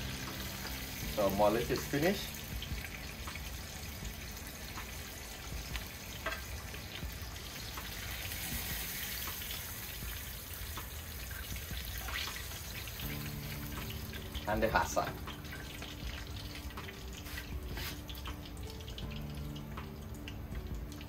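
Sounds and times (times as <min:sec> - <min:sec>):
frying oil sizzling and crackling: 0:00.0 - 0:21.0.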